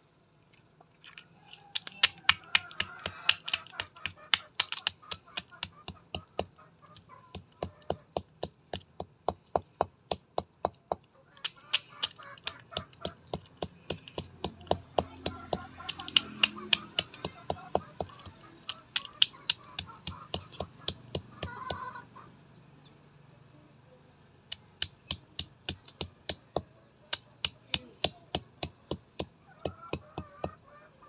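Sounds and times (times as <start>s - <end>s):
hen pecking on dirt: 0.9s - 22.0s, 24.5s - 30.8s.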